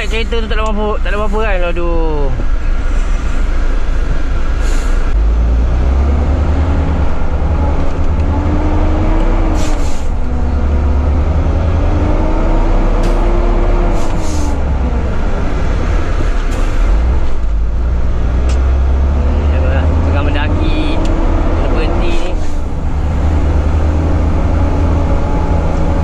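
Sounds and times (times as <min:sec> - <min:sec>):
diesel truck engine droning: 0:00.0 - 0:26.0.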